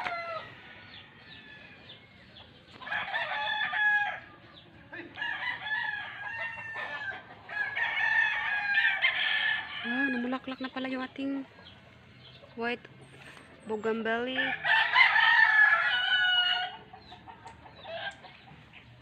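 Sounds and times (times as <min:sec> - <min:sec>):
roosters crowing: 0:00.0 - 0:10.6, 0:14.1 - 0:18.8
chickens calling: 0:00.0 - 0:19.0.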